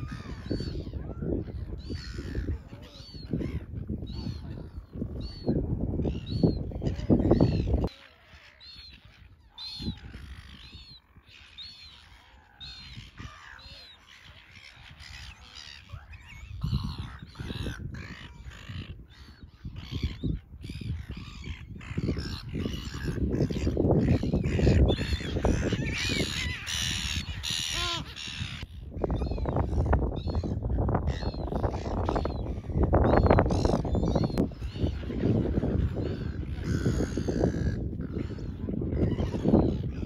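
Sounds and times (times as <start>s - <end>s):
gulls calling: 0.0s - 40.0s.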